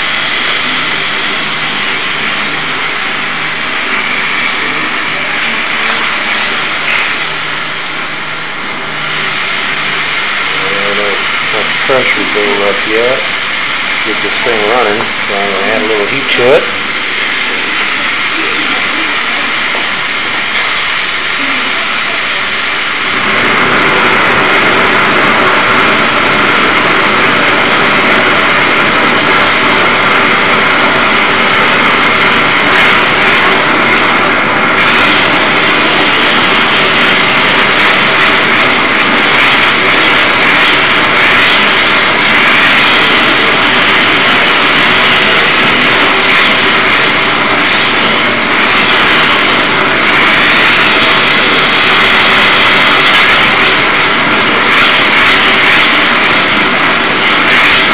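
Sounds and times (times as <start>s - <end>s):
blowtorch flame rushing: 0.0s - 57.9s.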